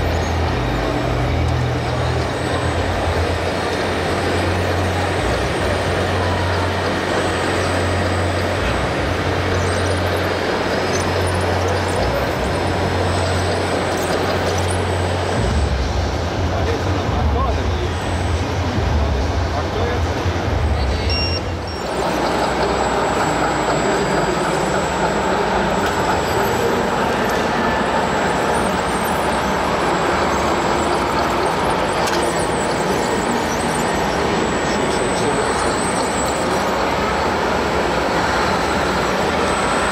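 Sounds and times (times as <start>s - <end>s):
busy hall crowd noise: 0.0s - 39.9s
diesel truck engine drone: 0.0s - 39.9s
model construction vehicles whirring: 0.0s - 39.9s.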